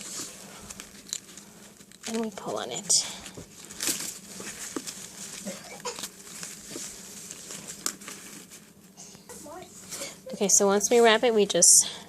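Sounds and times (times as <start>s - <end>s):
ribbon and thread rustling: 0.0s - 11.4s.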